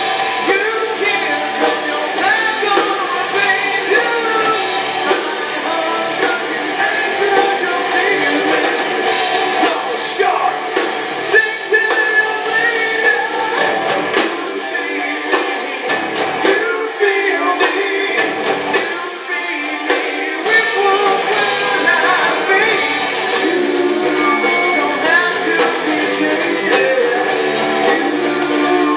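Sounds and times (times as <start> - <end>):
rock band playing live: 0.0 - 28.9.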